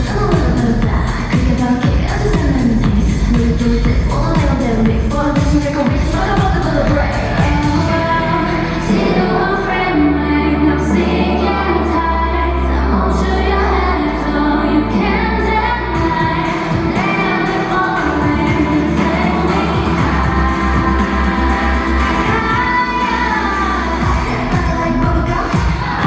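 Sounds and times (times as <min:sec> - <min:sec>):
dance-pop song with female vocals: 0:00.0 - 0:26.0
heavy bass: 0:00.0 - 0:26.0.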